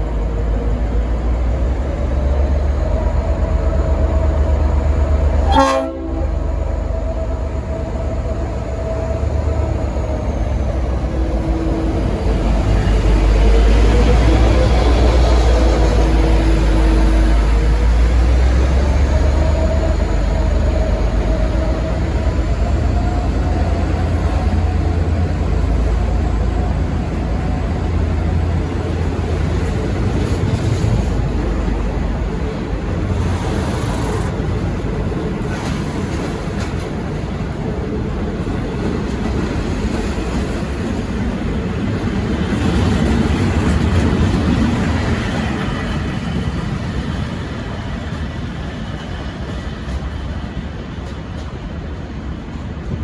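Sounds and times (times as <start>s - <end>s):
diesel locomotive engine: 0.0s - 53.0s.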